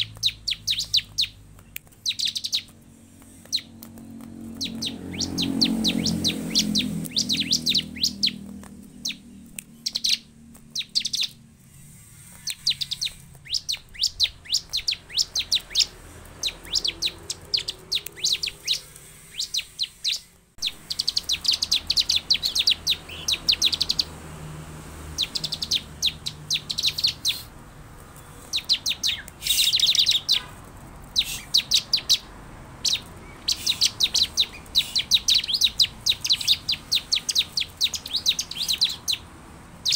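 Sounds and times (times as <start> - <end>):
bird chips and trills: 0.0 - 39.9.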